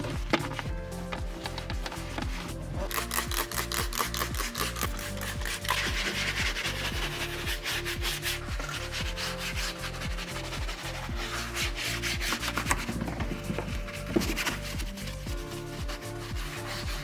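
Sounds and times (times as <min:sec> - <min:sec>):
background music with beat: 0:00.0 - 0:17.0
brush scrubbing plastic: 0:00.0 - 0:17.0.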